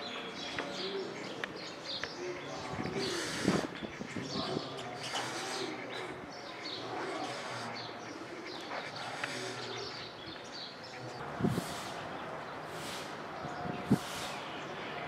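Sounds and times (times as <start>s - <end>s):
birds chirping: 0.0s - 15.0s
doves cooing: 0.0s - 15.0s.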